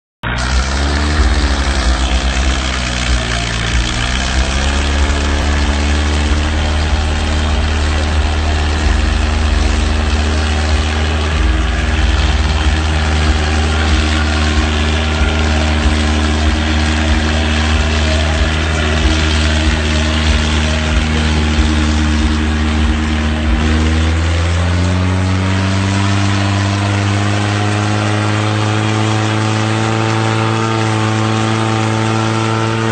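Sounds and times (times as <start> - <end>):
tractor diesel engine working hard: 0.2 - 32.9.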